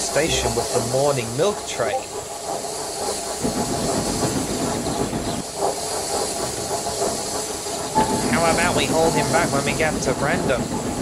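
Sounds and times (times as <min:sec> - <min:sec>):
steam hissing: 0:00.0 - 0:11.0
train rumbling on rails: 0:00.0 - 0:11.0.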